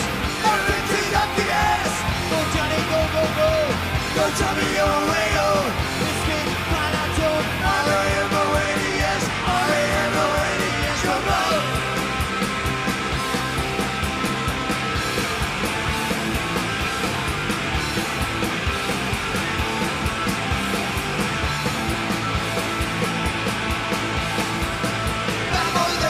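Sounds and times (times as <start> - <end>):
fast drum beat: 0.0 - 26.0
punk rock music: 0.0 - 26.0.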